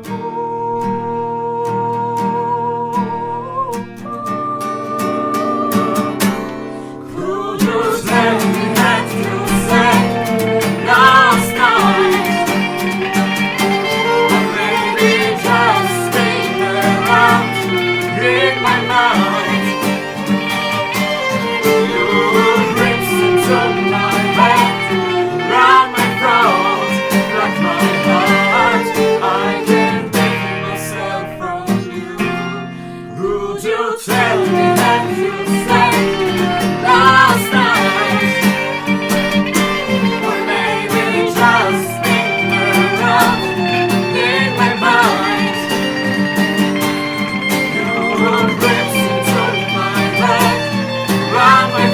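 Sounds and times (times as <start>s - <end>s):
guitars playing: 0.0s - 51.9s
person singing: 0.0s - 51.9s
viola melody: 0.0s - 51.9s.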